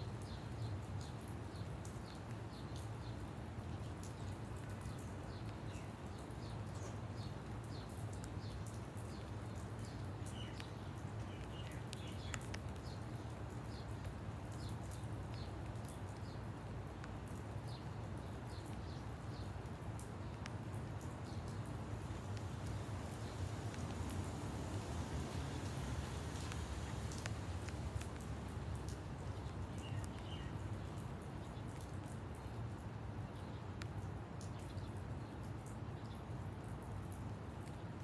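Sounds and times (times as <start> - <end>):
small birds chirping: 0.1 - 36.8.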